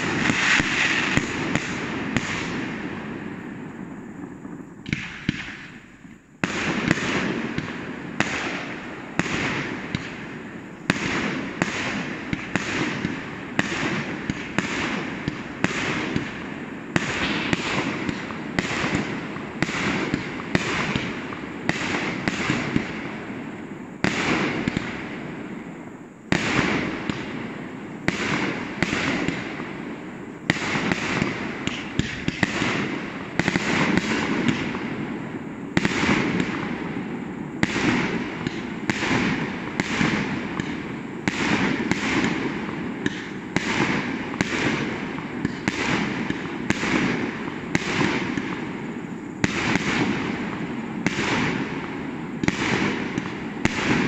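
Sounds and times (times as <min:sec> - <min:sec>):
fireworks sharp bangs: 0:00.0 - 0:54.0.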